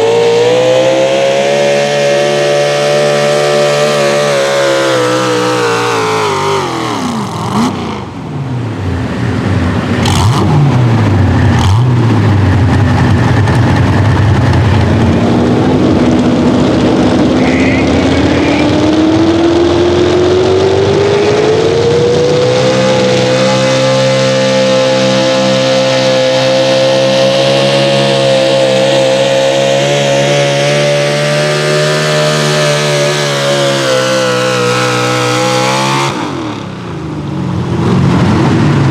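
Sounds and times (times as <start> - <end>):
truck engine at full throttle: 0.0 - 38.9.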